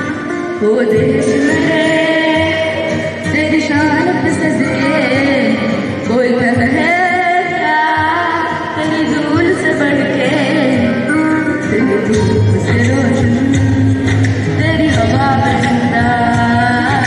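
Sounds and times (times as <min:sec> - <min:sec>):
boy singing into microphone: 0:00.0 - 0:17.0.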